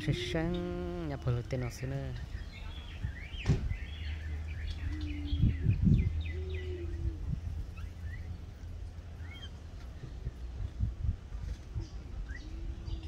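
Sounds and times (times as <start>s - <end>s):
birds chirping: 0.0s - 10.8s, 11.6s - 13.0s
constant low rumble: 0.0s - 13.0s
drawn-out low bird notes: 0.0s - 13.0s.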